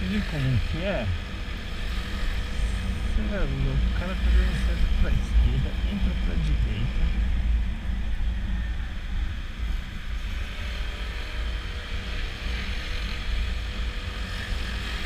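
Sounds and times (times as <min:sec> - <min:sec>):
road noise: 0:00.0 - 0:15.0
scooter engine hum: 0:00.0 - 0:15.0.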